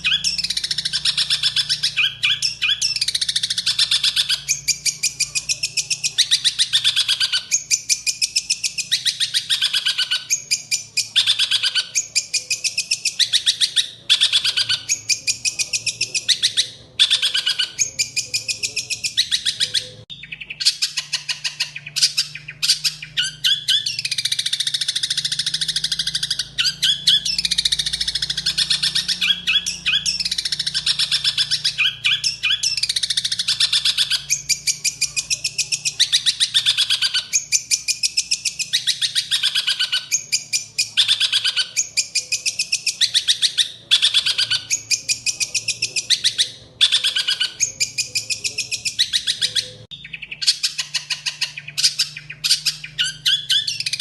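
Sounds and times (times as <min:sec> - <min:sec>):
songbird chattering song: 0:00.0 - 0:54.0.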